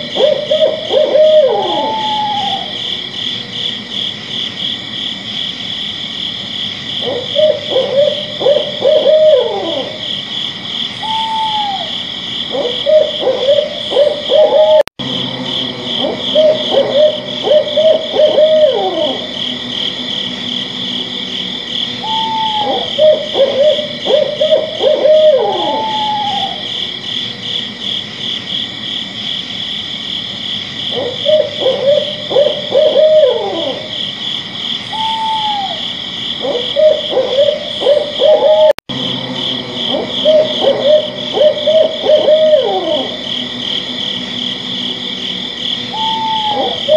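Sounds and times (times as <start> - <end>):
owl hooting: 0.0 - 3.9, 7.0 - 27.7, 30.8 - 34.2, 34.8 - 46.9
night insects chorus: 0.0 - 46.9.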